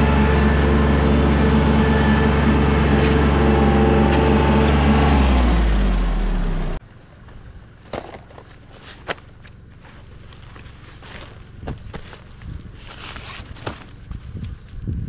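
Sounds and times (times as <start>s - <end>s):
engine running and shutting off: 0.0s - 14.9s.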